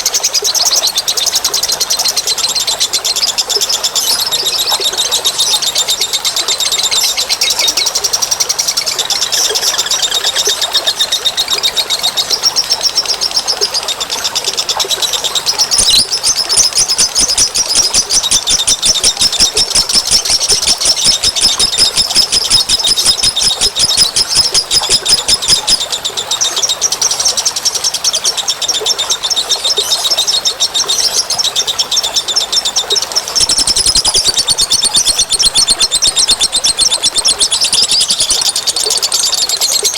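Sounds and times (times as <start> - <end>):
small birds chirping in trills: 0.0 - 39.9.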